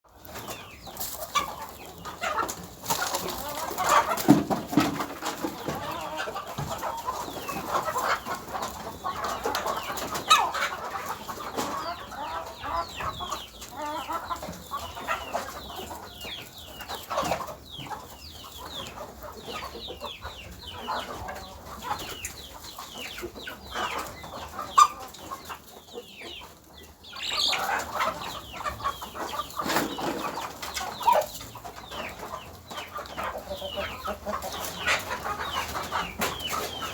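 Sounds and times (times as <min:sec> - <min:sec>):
chickens clucking and peeping: 0:00.1 - 0:36.9.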